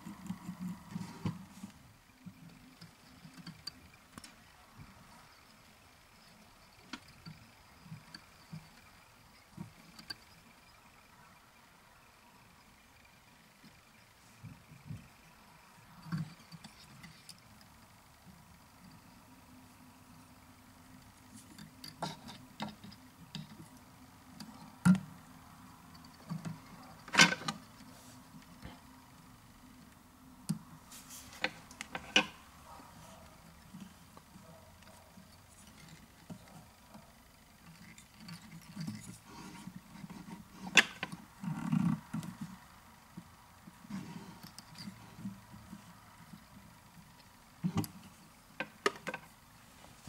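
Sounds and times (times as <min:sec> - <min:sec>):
faint steady hum: 0:00.0 - 0:50.0
soft rustles and bumps of handling: 0:00.0 - 0:50.0.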